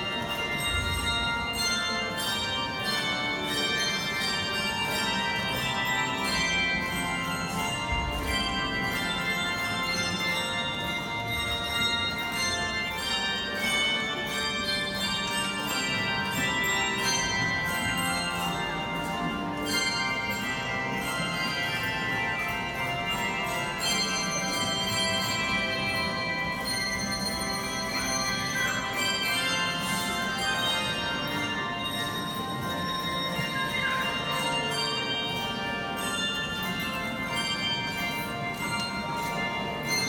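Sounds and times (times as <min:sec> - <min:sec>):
handbell choir playing: 0:00.0 - 0:40.0.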